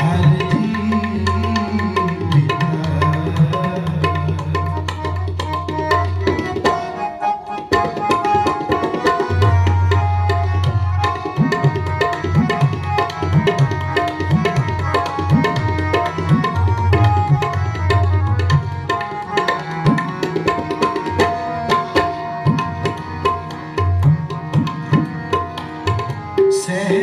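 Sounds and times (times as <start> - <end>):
harmonium melody: 0.0 - 27.0
tabla rhythm: 0.0 - 27.0.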